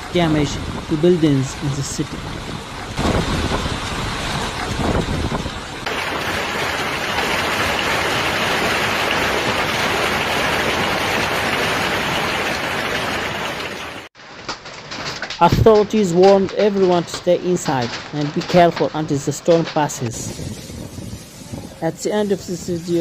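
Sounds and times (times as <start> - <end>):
heavy rain downpour: 0.0 - 14.1, 14.9 - 23.0.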